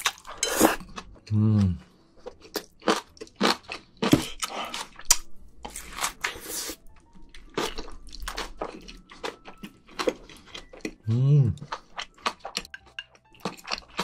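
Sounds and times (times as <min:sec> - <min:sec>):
wet chewing: 0:00.0 - 0:14.0.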